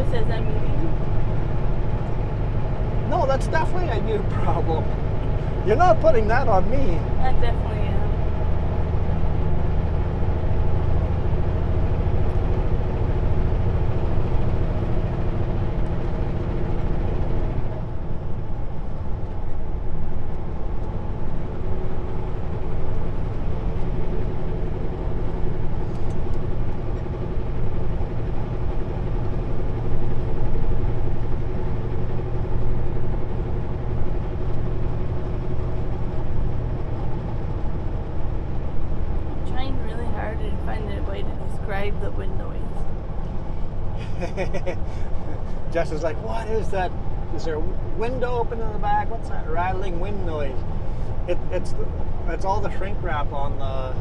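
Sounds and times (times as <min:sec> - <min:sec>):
diesel engine droning: 0:00.0 - 0:54.0
road noise hiss: 0:00.0 - 0:54.0.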